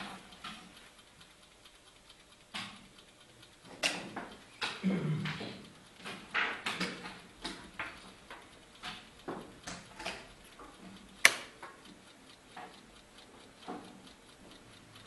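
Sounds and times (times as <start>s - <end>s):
chess clock buttons clicking: 0.0s - 15.0s.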